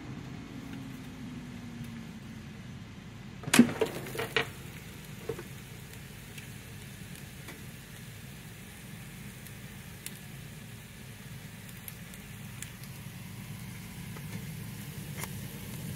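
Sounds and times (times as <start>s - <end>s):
faint sizzle: 0.0s - 15.9s.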